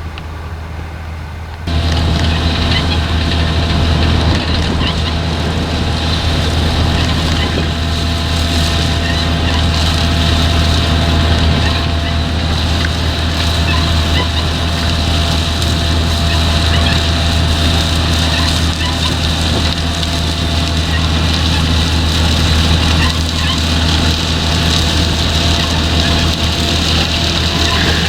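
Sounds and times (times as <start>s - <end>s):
diesel engine drone: 0.0s - 28.0s
machinery whine: 0.0s - 28.0s.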